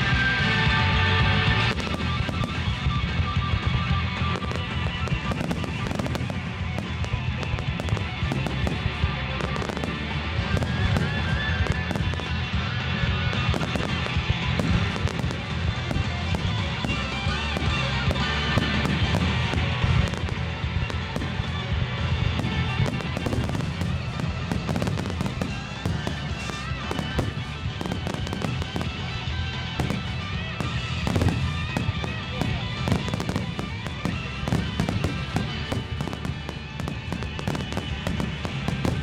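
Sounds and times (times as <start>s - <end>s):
fireworks crackling: 0.0s - 39.0s
fireworks shells bursting: 0.0s - 39.0s
music over loudspeakers: 0.0s - 39.0s.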